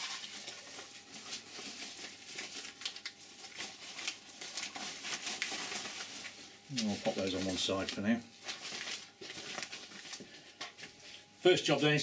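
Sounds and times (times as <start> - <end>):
packet rustling and crinkling: 0.0 - 11.3.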